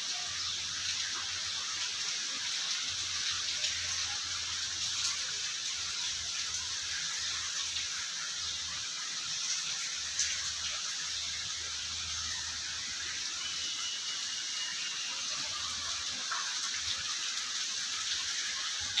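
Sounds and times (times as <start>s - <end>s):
rainwater pouring and splashing: 0.0s - 19.0s.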